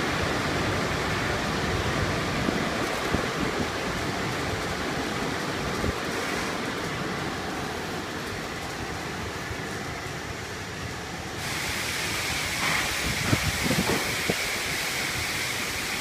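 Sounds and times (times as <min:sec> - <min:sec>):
water spray and machinery: 0:00.0 - 0:16.0.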